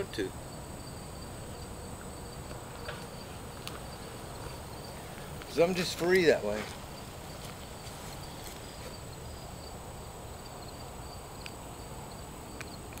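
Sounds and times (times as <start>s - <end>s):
insects chirping: 0.0s - 13.0s
low outdoor hum: 0.0s - 13.0s.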